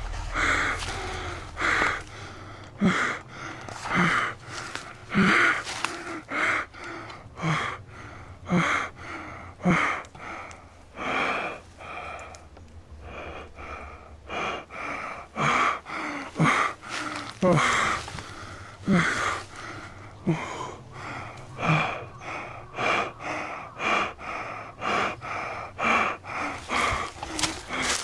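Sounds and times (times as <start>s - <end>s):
person gasping for breath: 0.0s - 28.0s.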